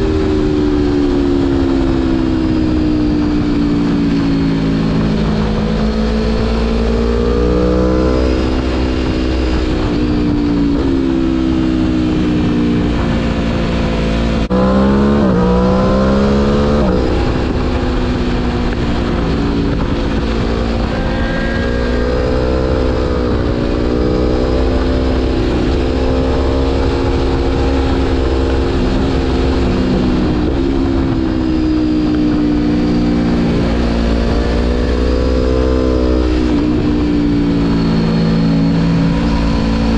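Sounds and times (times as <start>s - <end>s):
motorcycle engine revving: 0.0s - 39.9s
steady wind rush: 0.0s - 39.9s.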